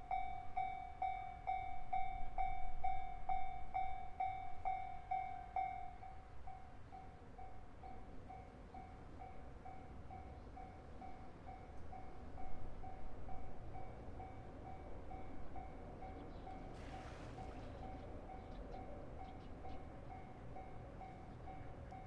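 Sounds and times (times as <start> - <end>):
level-crossing warning bell: 0.0 - 22.0
low train rumble: 0.0 - 22.0.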